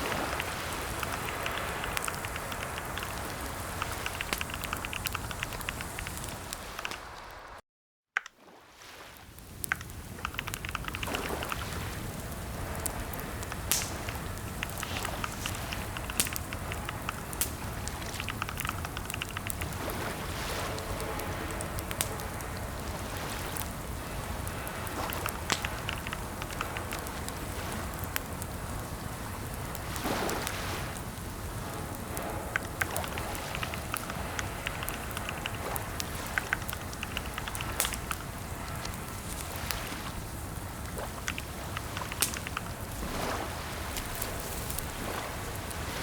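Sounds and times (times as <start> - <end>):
sharp clicks and crackles: 0.0 - 7.2, 9.4 - 46.0
rain-like hiss: 0.0 - 7.6, 8.4 - 46.0.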